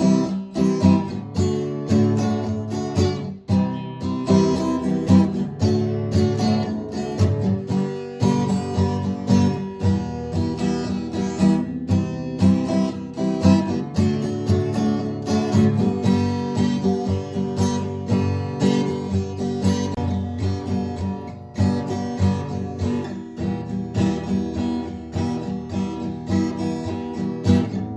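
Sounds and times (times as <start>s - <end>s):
acoustic guitar strumming: 0.0s - 27.9s.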